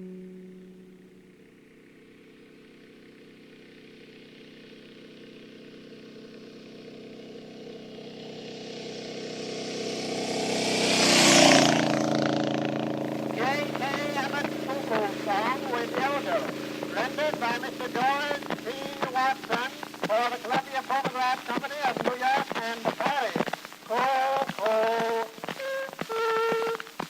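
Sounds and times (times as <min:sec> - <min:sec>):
motor vehicle passing: 0:00.0 - 0:23.8.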